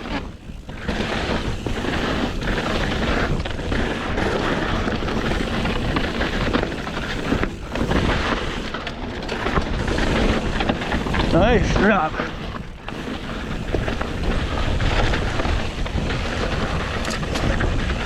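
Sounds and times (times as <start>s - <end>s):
bike rattling: 0.0s - 18.0s
tyres rolling over rocky dirt: 0.0s - 18.0s
wind rushing over microphone: 0.0s - 18.0s.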